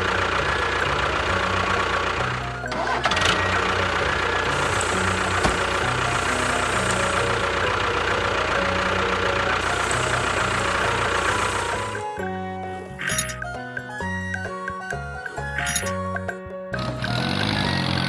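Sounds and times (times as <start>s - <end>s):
machine engine droning: 0.0s - 13.8s, 16.8s - 18.0s.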